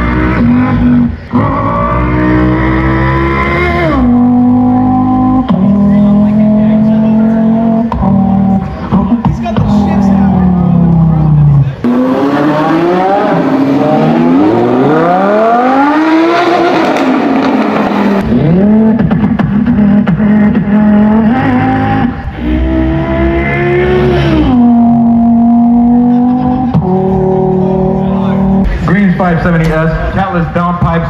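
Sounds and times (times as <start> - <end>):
man imitating engine revving: 0.0 - 17.0, 18.2 - 28.6
sports car engine revving: 0.0 - 30.2.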